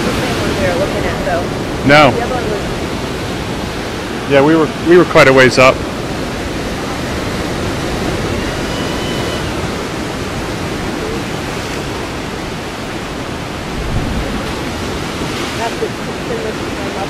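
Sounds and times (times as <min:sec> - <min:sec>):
surf breaking on rocky shore: 0:00.0 - 0:17.0.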